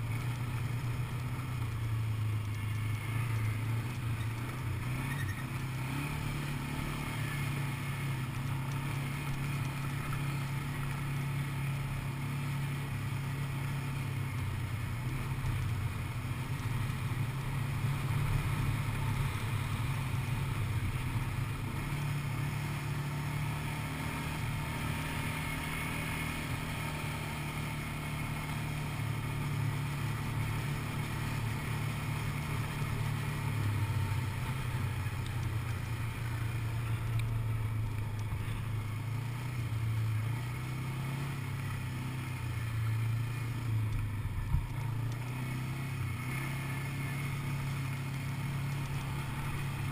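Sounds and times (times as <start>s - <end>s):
quad bike engine running: 0.0s - 49.9s.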